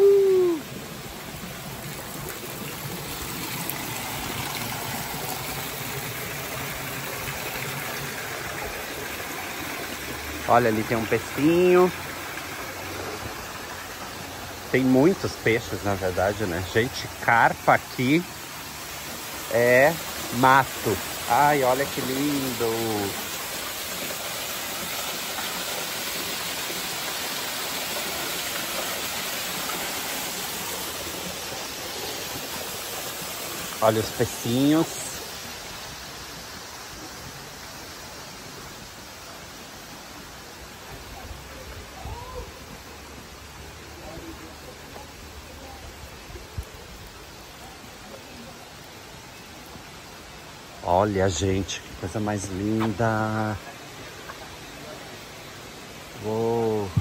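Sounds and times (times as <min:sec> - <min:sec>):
stream water flowing into pool: 0:00.0 - 0:57.0.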